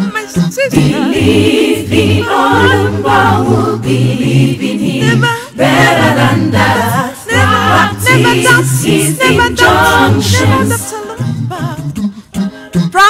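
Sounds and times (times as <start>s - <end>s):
voices singing gospel song: 0.0s - 13.0s.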